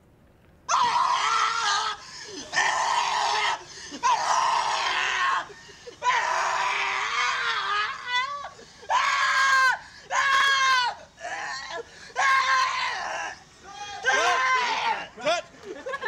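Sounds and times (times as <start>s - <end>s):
person screaming: 0.7s - 15.4s.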